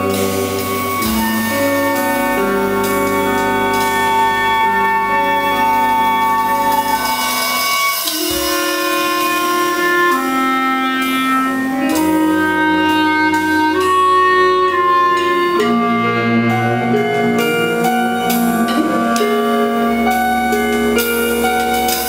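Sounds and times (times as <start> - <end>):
cello: 0.0 - 22.0
clarinet: 0.0 - 22.0
double bass: 0.0 - 22.0
electric guitar: 0.0 - 22.0.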